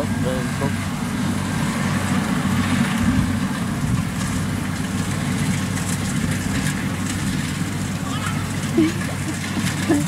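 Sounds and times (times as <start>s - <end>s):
combine harvester engine droning: 0.0s - 10.0s.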